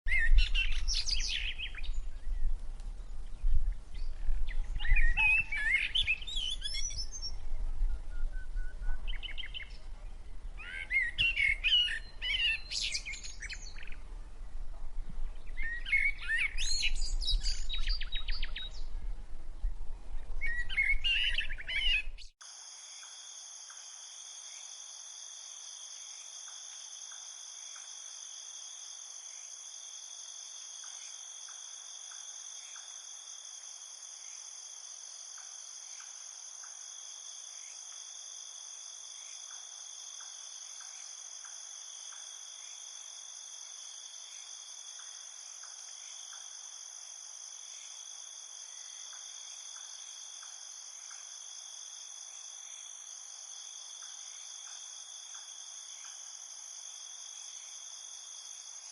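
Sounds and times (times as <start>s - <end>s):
insects chorus: 0.1s - 18.8s, 20.4s - 58.9s.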